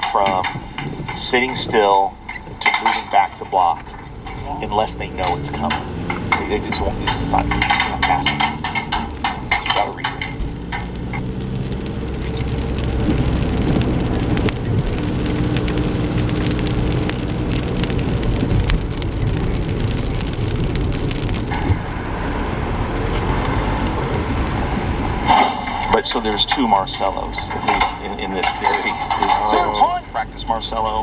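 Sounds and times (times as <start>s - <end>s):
car engine and road noise: 0.0s - 31.0s
rain ticking on car: 0.0s - 31.0s.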